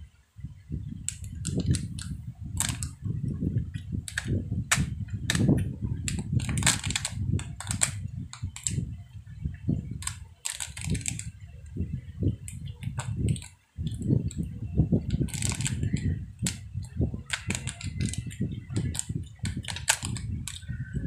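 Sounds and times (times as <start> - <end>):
plastic cups clicking and crackling: 1.0 - 3.1, 3.7 - 8.8, 9.9 - 11.4, 12.3 - 21.0.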